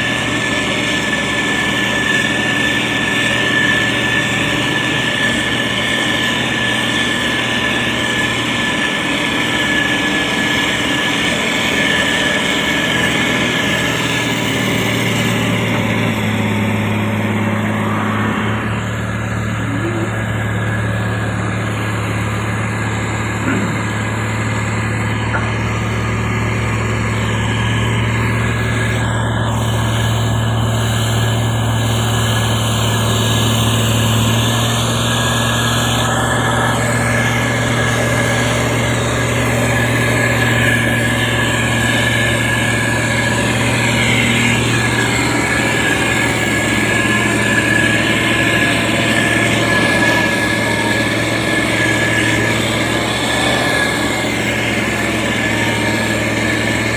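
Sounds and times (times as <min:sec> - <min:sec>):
diesel engine droning: 0:00.0 - 0:56.9
high whine: 0:00.0 - 0:56.9.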